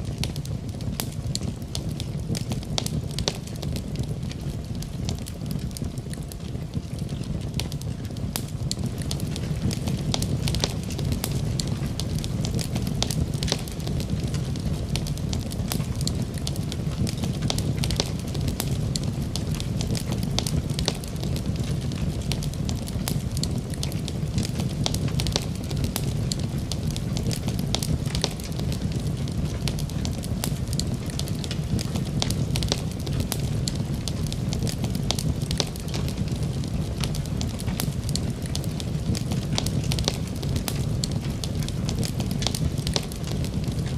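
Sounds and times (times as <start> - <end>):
cooking fire rumbling: 0.0 - 43.9
fire crackling and sizzling: 0.0 - 43.9.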